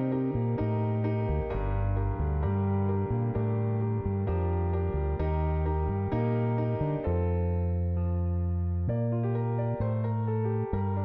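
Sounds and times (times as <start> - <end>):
gentle new-age keyboard music: 0.0 - 11.0.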